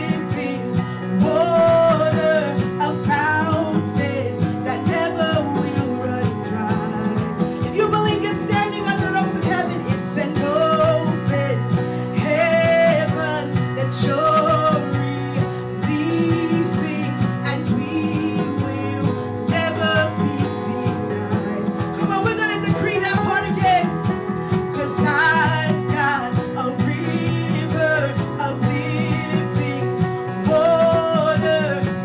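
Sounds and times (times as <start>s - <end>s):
live band with keyboard: 0.0s - 32.0s
woman singing into microphone: 0.0s - 32.0s.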